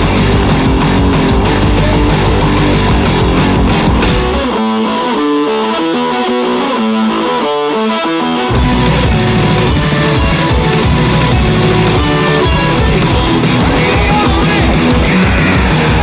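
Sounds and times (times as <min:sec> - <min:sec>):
plucked guitar melody: 0:00.0 - 0:16.0
rock band playing: 0:00.0 - 0:16.0.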